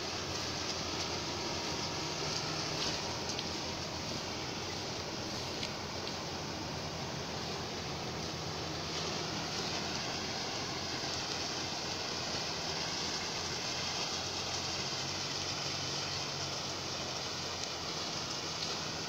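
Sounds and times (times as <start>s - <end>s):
harvester and truck engines droning: 0.0s - 19.0s
steady hiss: 0.0s - 19.0s.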